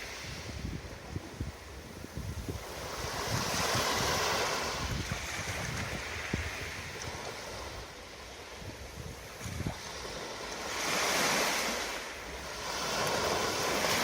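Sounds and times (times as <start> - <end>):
ocean waves breaking: 0.0 - 14.0
wind buffeting microphone: 0.0 - 14.0.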